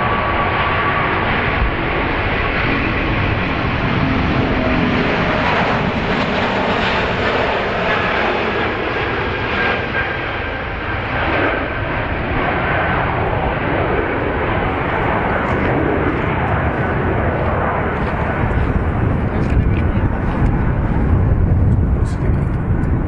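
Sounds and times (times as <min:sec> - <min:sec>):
faint engine whine: 0:00.0 - 0:23.0
jet airliner roar: 0:00.0 - 0:23.0.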